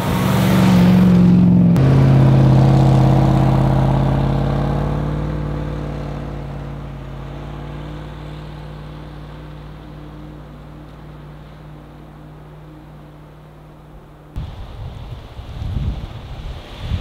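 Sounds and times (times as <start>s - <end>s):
truck engine driving: 0.0s - 14.6s.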